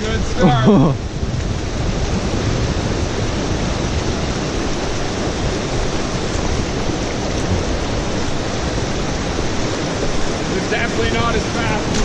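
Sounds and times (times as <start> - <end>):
river rushing over falls: 0.0 - 12.0.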